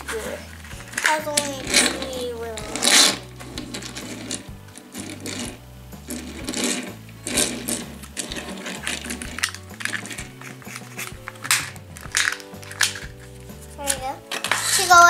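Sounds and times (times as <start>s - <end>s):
background music with bass: 0.0s - 15.0s
toy car wheels rattling: 0.0s - 15.0s.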